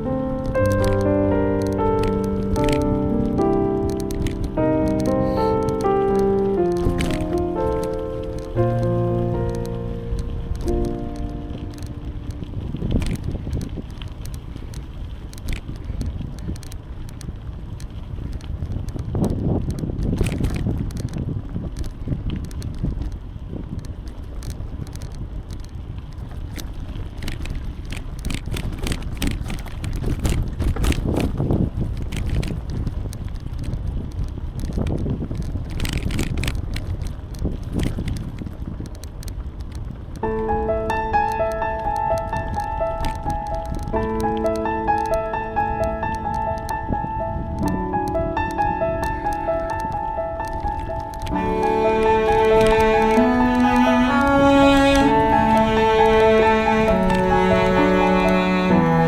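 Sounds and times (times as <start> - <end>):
bicycle tyres rolling: 0.0 - 59.0
small clicks and crackles: 0.0 - 59.0
wind buffeting microphone: 0.0 - 59.0.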